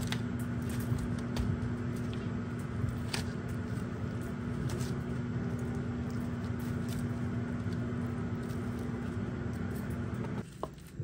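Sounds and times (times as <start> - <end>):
machine humming: 0.0 - 10.5.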